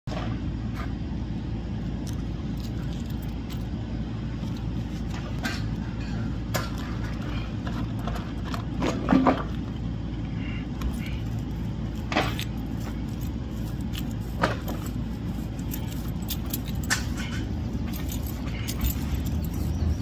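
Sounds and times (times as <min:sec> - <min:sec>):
low mechanical rumble: 0:00.1 - 0:20.0.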